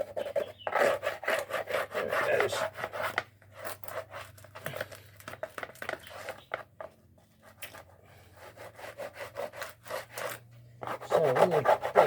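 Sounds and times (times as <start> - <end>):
scrubbing on plastic panel: 0.0 - 12.0.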